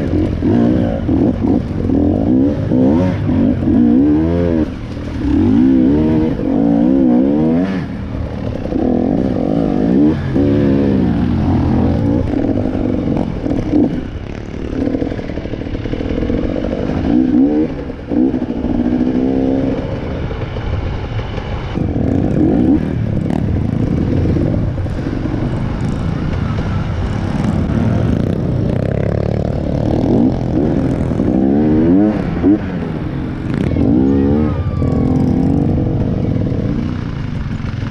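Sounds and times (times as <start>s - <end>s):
dirt bike engine revving: 0.0s - 20.6s, 21.4s - 37.9s.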